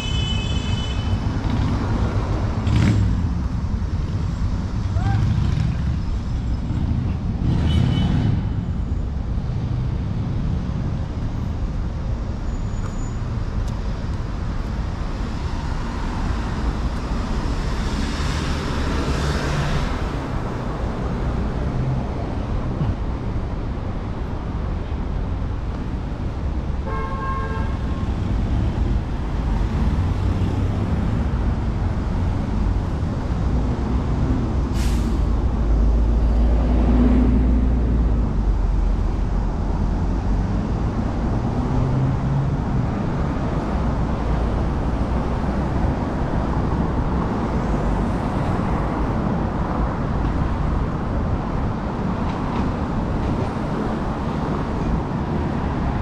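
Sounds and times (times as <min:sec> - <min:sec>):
cars passing: 0:01.0 - 0:12.5, 0:13.2 - 0:56.0.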